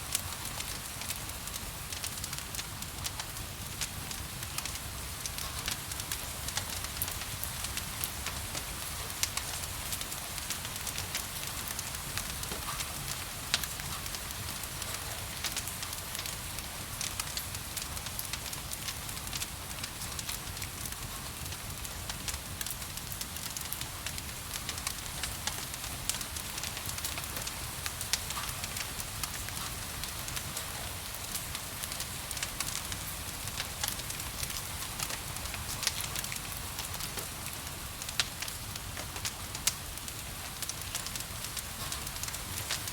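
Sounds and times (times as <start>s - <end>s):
rain hiss: 0.0s - 42.9s
wood fire crackling: 0.1s - 42.9s.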